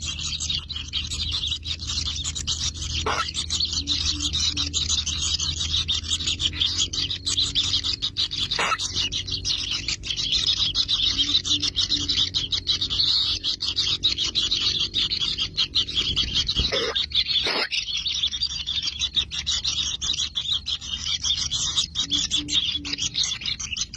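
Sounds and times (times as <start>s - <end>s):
nestlings raspy begging calls: 0.0s - 23.9s
steady low hum: 0.0s - 23.9s.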